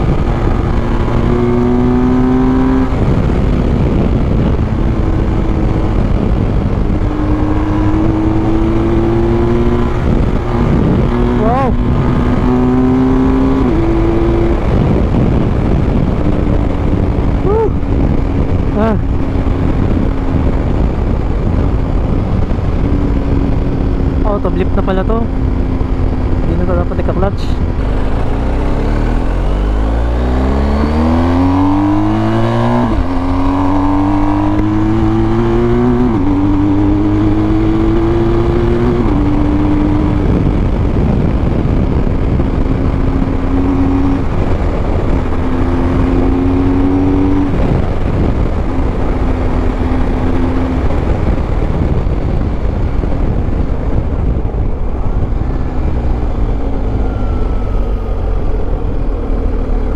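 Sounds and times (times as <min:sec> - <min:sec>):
heavy wind noise: 0:00.0 - 0:59.9
motorcycle engine accelerating: 0:00.0 - 0:59.9.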